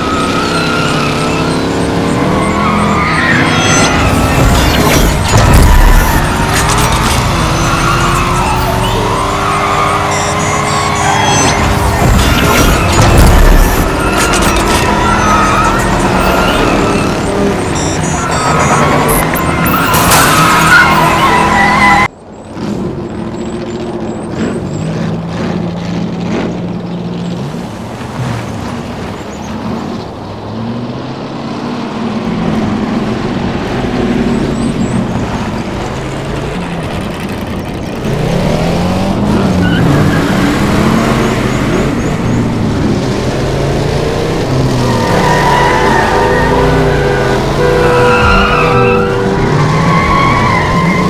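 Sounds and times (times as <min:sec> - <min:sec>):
car engines revving: 0:00.0 - 0:51.0.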